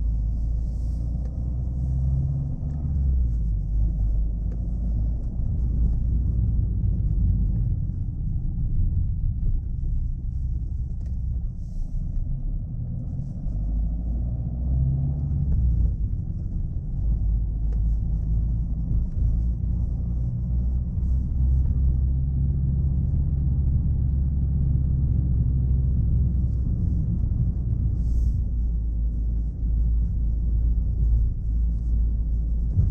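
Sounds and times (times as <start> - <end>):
car engine and road rumble: 0.0 - 32.9.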